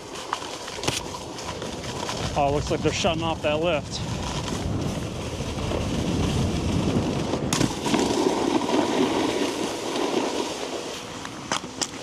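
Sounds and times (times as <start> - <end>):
snowboard scraping over snow: 0.0 - 12.0.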